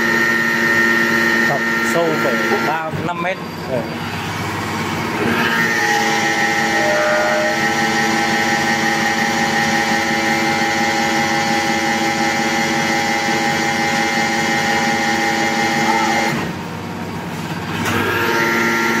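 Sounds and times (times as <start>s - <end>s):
hydraulic power unit whining: 0.0s - 19.0s.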